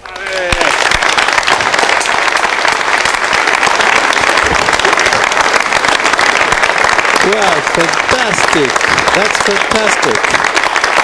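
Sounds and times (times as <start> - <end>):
crowd applauding and cheering: 0.0 - 11.0.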